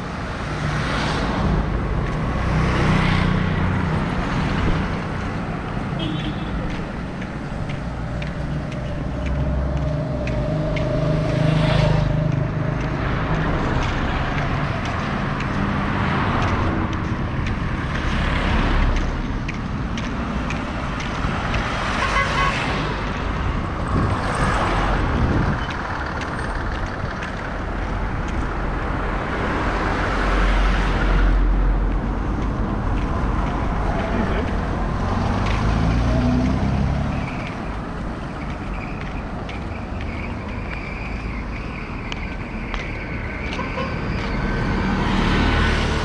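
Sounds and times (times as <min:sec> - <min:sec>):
cars and trucks passing: 0:00.0 - 0:46.0
hum of running engines: 0:00.0 - 0:46.0.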